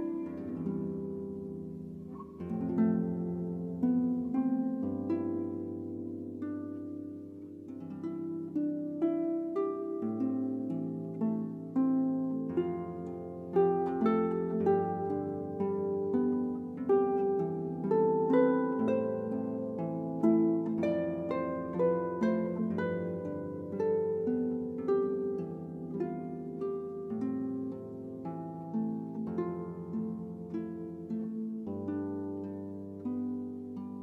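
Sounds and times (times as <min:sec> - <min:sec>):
calm harp piece: 0:00.0 - 0:34.0.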